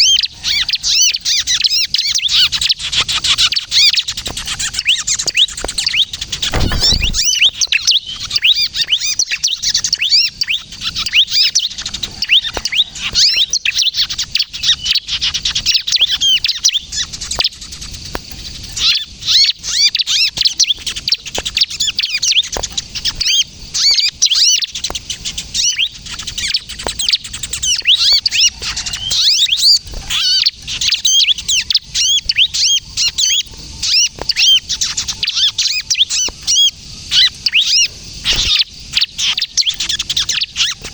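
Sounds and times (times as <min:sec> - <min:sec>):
bird sharp high chirps and twitters: 0:00.0 - 0:40.9.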